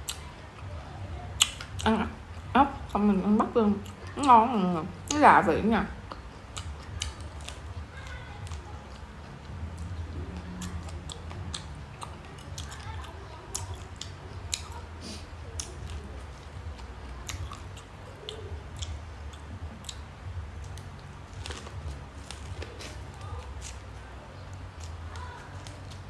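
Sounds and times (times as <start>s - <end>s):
chewing corn on the cob: 0.0s - 26.0s
low steady hum: 0.0s - 26.0s.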